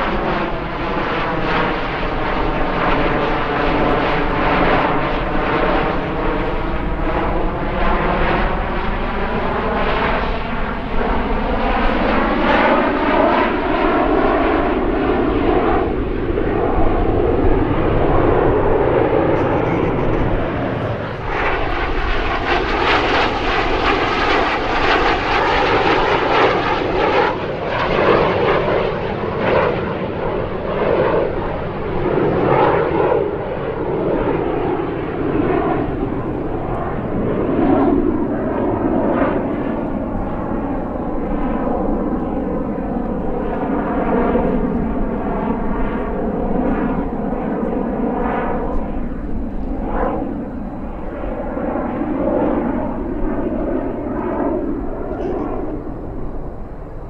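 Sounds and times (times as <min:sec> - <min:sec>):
jets flying past roaring: 0:00.0 - 0:57.0.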